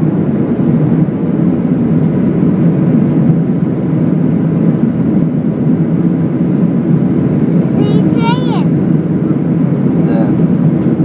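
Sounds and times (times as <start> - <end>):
airplane cabin engine noise: 0.0 - 11.0.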